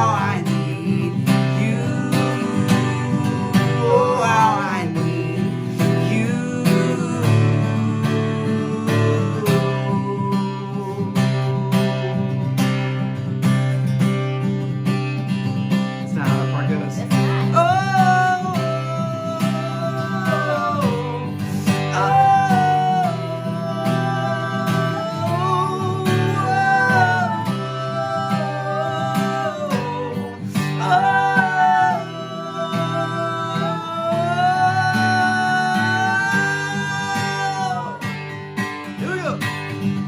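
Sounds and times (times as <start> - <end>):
person singing wordless melody: 0.0 - 12.6, 16.1 - 38.2
acoustic guitar strumming: 0.0 - 40.0.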